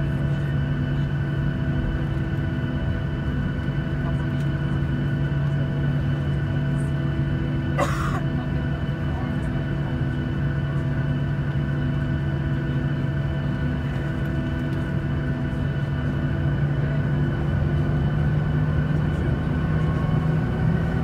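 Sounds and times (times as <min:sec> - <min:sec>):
jet engine hum in cabin: 0:00.0 - 0:21.0.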